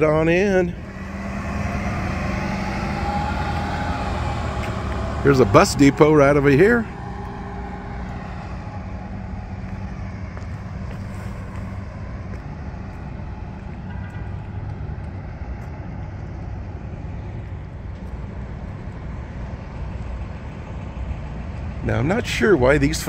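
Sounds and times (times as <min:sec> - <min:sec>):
engine hum: 0:00.0 - 0:23.0
traffic rumble: 0:00.0 - 0:23.0.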